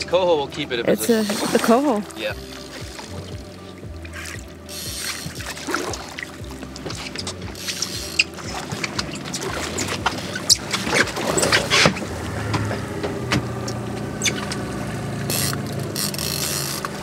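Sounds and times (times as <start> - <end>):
outboard motor idling: 0.0 - 17.0
water splashing: 0.5 - 17.0.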